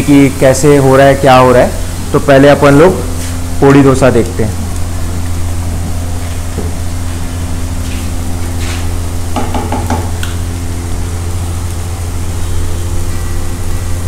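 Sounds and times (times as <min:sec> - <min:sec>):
batter sizzling on a griddle: 0:00.0 - 0:14.0
steady low hum: 0:00.0 - 0:14.0.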